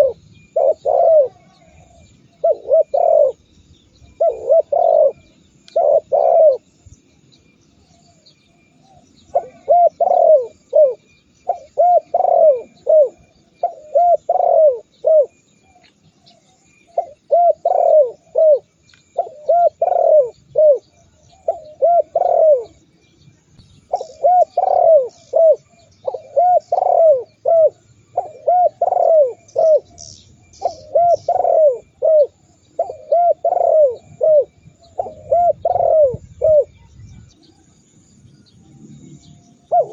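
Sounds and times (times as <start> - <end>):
dove cooing: 0.0 - 6.8, 7.9 - 22.8, 23.9 - 37.7, 39.2 - 39.9
small birds chirping: 0.0 - 39.9.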